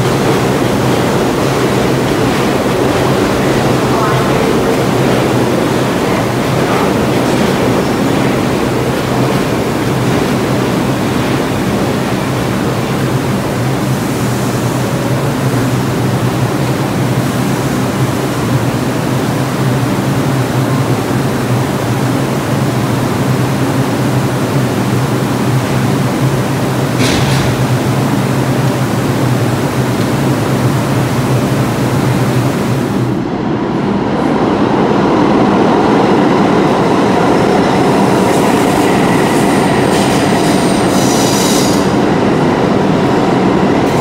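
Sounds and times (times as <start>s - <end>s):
low hum from train cars: 0.0s - 44.0s
subway train rumbling to a stop: 0.0s - 44.0s.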